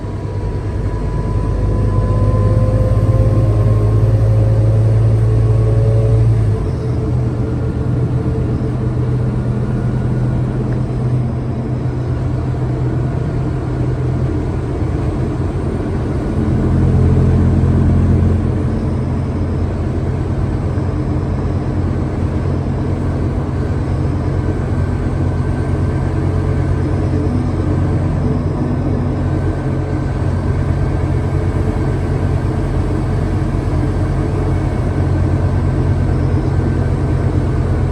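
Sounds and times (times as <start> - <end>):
bus diesel engine droning: 0.0 - 37.9
road noise: 0.0 - 37.9.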